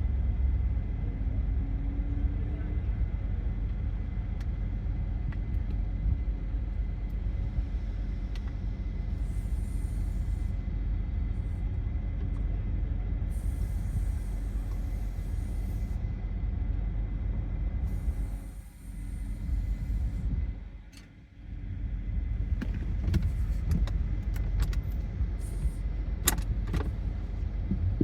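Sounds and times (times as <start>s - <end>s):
car rumbling: 0.0s - 28.0s.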